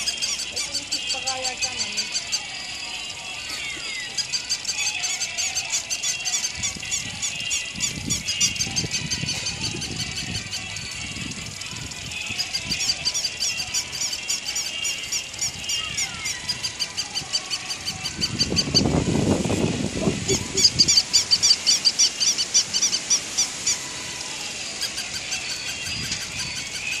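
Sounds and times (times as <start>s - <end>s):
toy squeaking: 0.0s - 27.0s.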